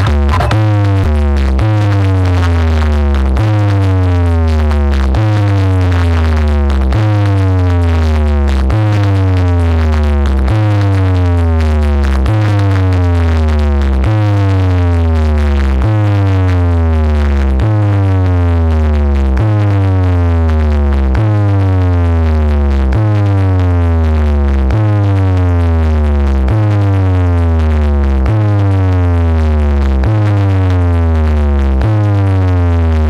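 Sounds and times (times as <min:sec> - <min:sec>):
deep bass note: 0:00.0 - 0:33.0.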